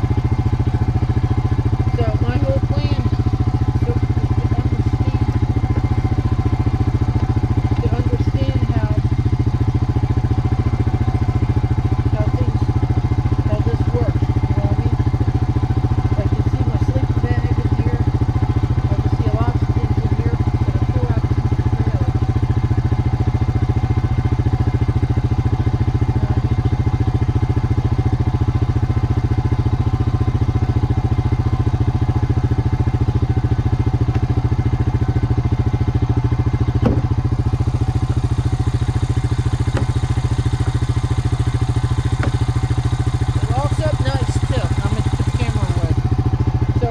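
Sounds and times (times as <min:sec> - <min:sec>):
atv engine idling: 0:00.0 - 0:46.9.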